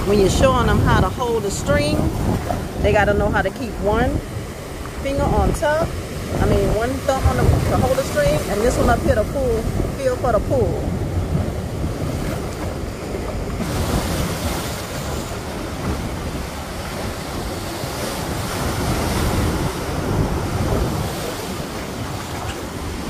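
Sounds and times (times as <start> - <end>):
surf splashing against boulders: 0.0 - 23.0
wind buffeting microphone: 0.0 - 23.0.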